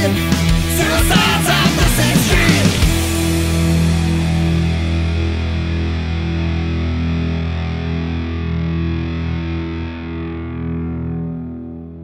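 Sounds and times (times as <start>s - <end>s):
distorted electric guitar chord: 0.2s - 12.0s.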